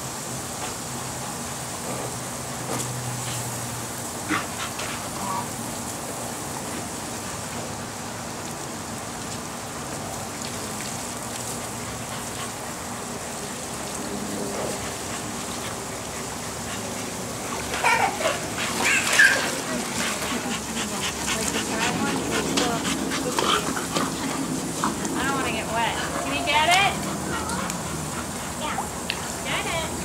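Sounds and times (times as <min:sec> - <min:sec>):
water spraying from sprinkler: 0:00.0 - 0:30.0.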